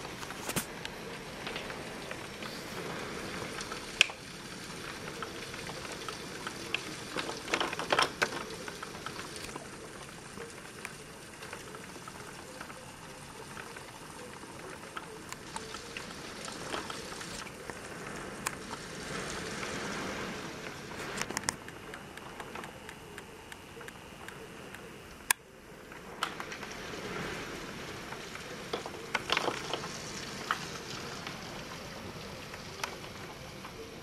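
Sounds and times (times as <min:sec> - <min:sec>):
wind and heavy rain through windows: 0:00.0 - 0:34.0.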